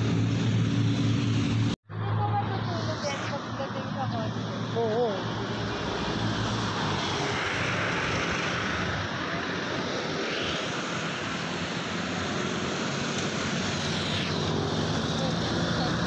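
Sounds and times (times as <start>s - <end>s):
cars passing close by: 0.0s - 16.0s
motorcycles passing: 0.0s - 16.0s.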